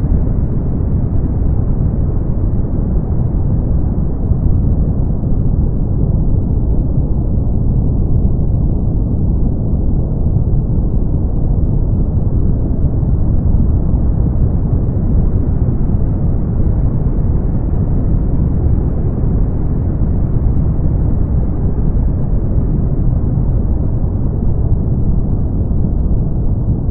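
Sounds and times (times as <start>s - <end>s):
deep brown noise: 0.0s - 26.9s.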